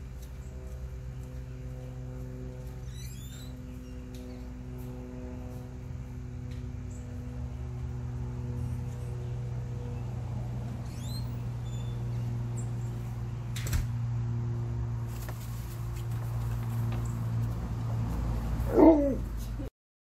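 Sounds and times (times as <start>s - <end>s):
steady low hum with tones: 0.0s - 19.7s.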